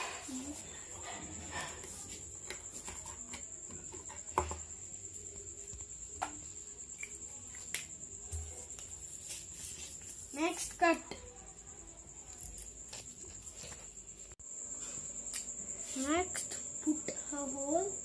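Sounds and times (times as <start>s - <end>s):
insect trill: 0.0s - 18.0s.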